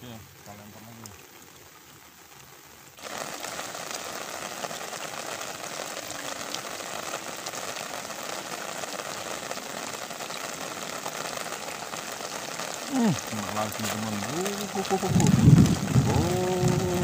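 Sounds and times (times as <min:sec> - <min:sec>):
heavy rain on a pond: 0:00.0 - 0:17.0.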